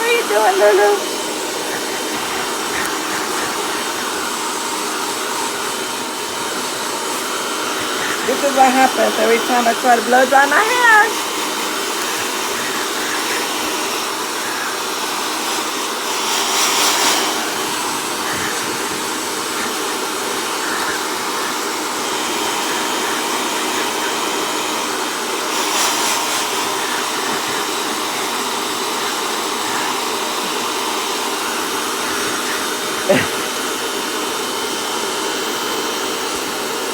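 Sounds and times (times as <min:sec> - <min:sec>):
hair dryer blowing air: 0:00.0 - 0:36.9.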